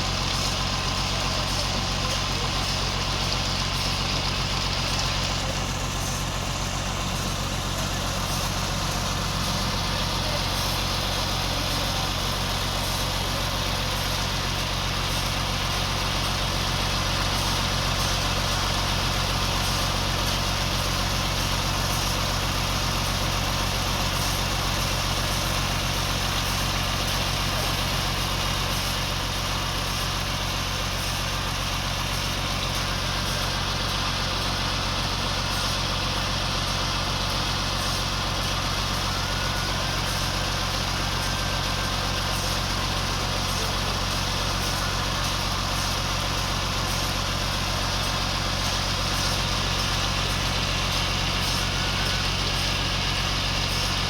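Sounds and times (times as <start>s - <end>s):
continuous noise: 0.0s - 54.0s
sawmill engine running: 0.0s - 54.0s.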